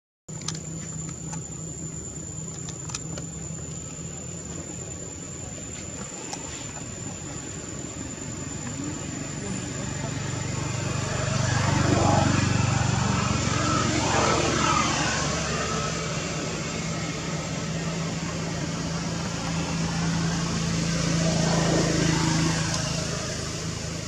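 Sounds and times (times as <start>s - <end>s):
vehicles passing: 0.4s - 24.0s.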